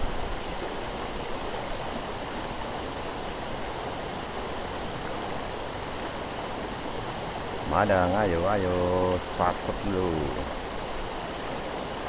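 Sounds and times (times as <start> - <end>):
river running over rocks: 0.0 - 12.0.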